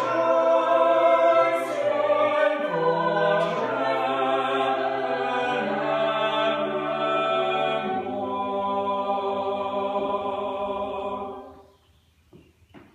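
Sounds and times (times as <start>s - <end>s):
choir singing held chord: 0.0s - 11.7s.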